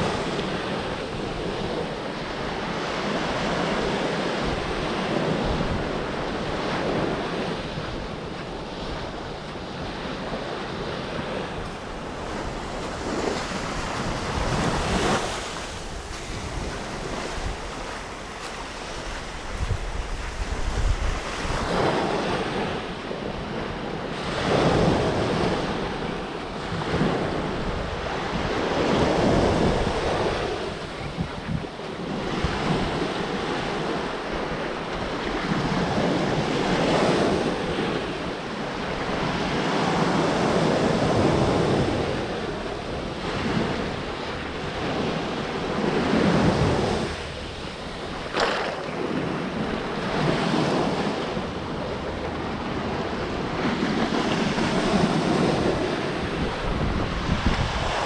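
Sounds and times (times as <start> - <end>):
waves breaking on a beach: 0.0 - 58.0
wind buffeting microphone: 0.0 - 58.0.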